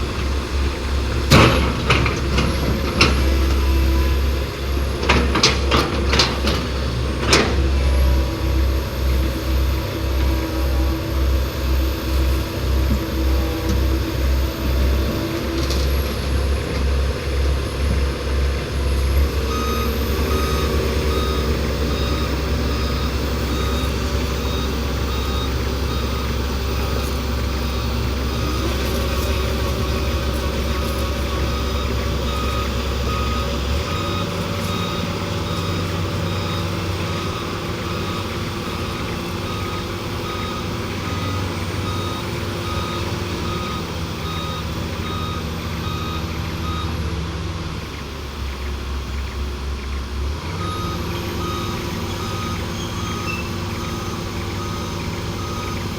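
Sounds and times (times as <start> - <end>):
diesel engine rumbling: 0.0 - 55.9
reversing alarm beeping: 1.3 - 16.8, 18.8 - 47.2, 50.4 - 55.9.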